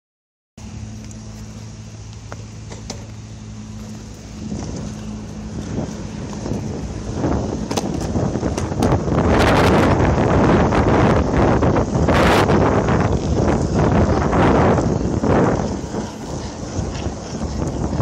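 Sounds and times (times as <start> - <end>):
longboard wheels rolling on asphalt: 0.6 - 18.0
steady low hum: 0.6 - 18.0.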